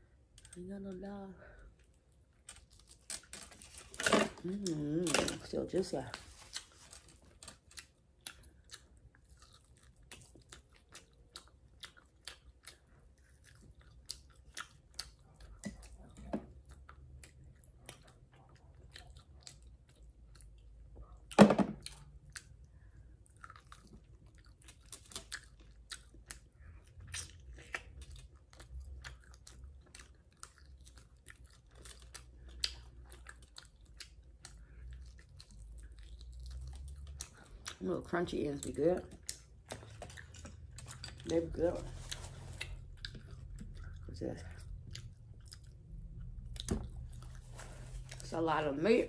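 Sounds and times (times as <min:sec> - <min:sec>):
chewing and gnawing meat: 0:01.8 - 0:48.3.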